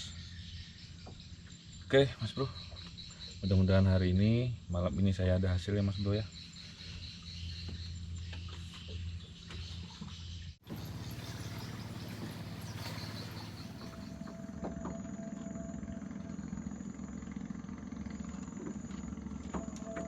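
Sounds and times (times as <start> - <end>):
small boat engine rumbling: 0.0 - 20.0.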